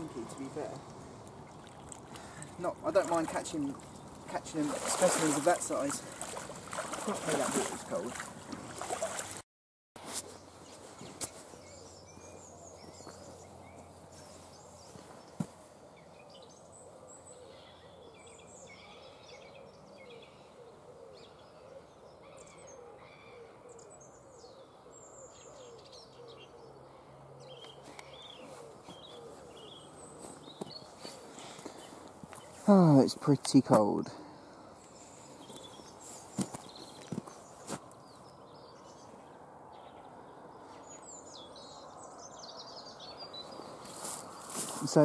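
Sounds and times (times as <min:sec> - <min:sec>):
small birds chirping: 0:00.0 - 0:09.3, 0:10.0 - 0:45.0
faint outdoor hiss: 0:00.0 - 0:09.4, 0:10.0 - 0:45.0.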